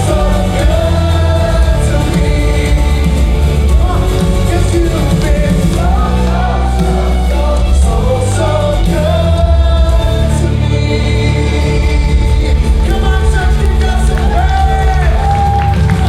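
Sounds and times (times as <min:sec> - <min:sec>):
person singing: 0:00.0 - 0:16.0
worship band playing: 0:00.0 - 0:16.0.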